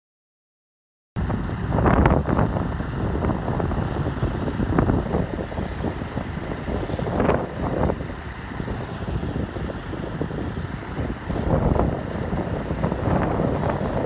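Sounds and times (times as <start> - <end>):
diesel locomotives rumbling: 1.2 - 14.0.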